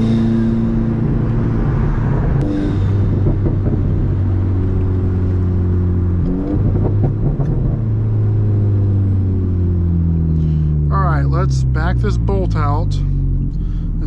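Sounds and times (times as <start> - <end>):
turbocharged car engine pulling: 0.0 - 14.0.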